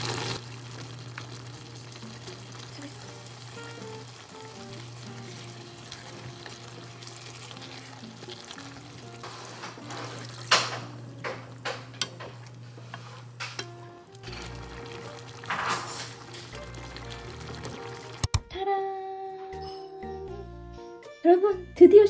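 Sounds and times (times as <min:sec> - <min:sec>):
vegetables sizzling in a frying pan: 0:00.0 - 0:18.3
light background music: 0:01.4 - 0:22.0.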